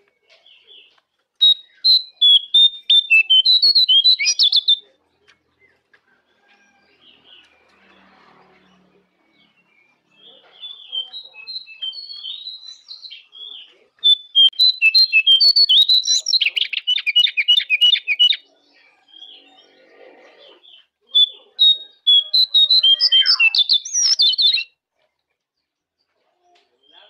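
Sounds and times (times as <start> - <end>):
songbird singing: 0.0 - 24.8.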